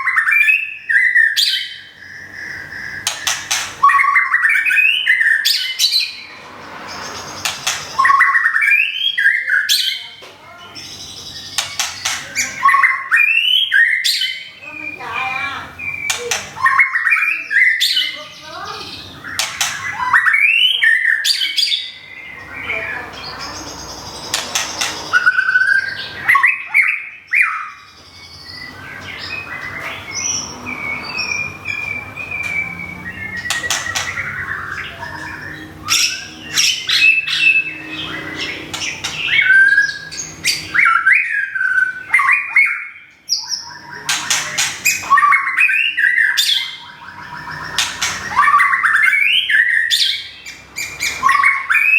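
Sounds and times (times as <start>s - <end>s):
bird singing whistled phrases: 0.0s - 6.2s, 7.4s - 10.0s, 11.3s - 15.1s, 15.8s - 18.2s, 24.8s - 51.9s.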